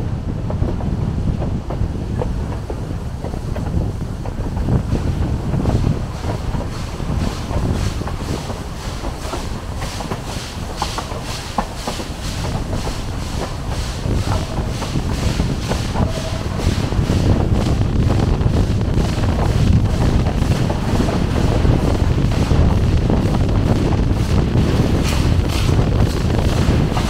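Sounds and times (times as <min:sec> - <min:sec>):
train running past: 0:00.0 - 0:27.0
wind noise on microphone: 0:00.0 - 0:27.0.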